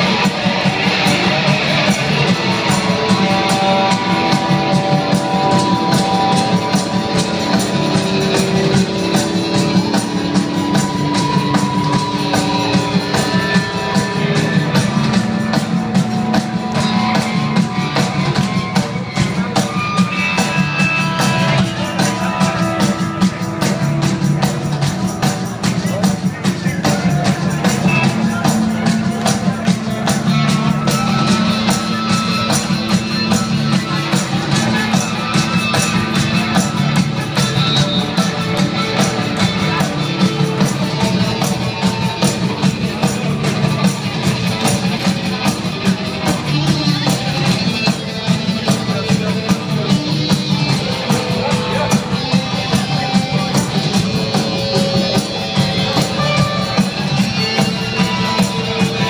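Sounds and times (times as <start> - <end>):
live rock band playing: 0.0 - 59.0
steady drum beat: 0.0 - 59.0.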